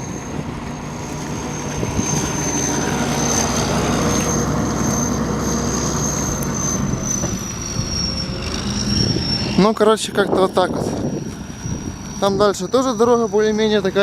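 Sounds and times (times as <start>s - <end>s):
thin high whine: 0.0s - 14.0s
tractor diesel engine running hard: 0.0s - 14.0s.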